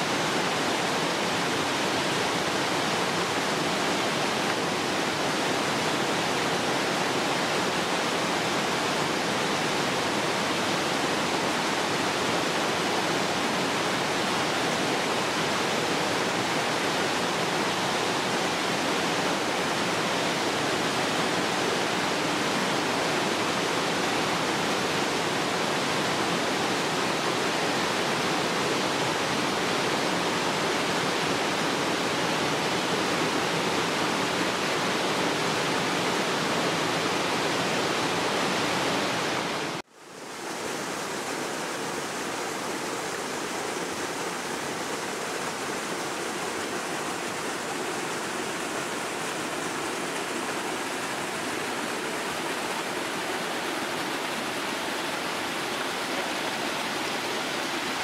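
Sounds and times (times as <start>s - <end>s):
flowing river water: 0.0s - 58.0s.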